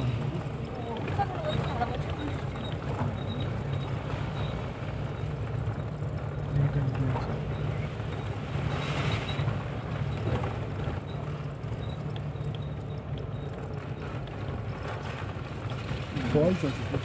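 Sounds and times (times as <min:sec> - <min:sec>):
low engine drone: 0:00.0 - 0:17.0
tyre and gravel road rumble: 0:00.0 - 0:17.0.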